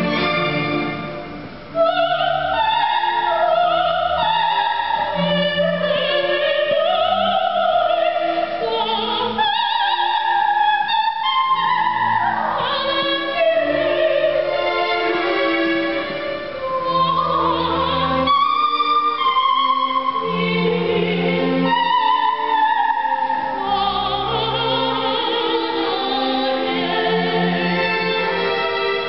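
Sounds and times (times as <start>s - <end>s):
cellos and double basses bowing: 0.0s - 9.4s, 11.5s - 29.0s
operatic soprano singing: 0.0s - 29.0s.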